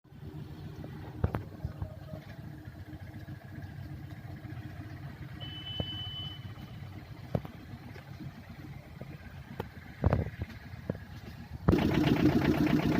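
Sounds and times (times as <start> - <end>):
vehicle engine idling: 0.1 - 12.9.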